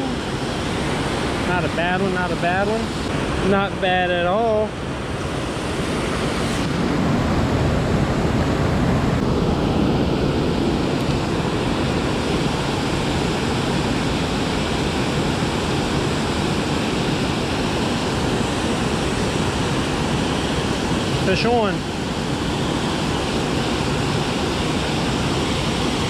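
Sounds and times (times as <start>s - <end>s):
water rushing over a dam: 0.0s - 26.0s.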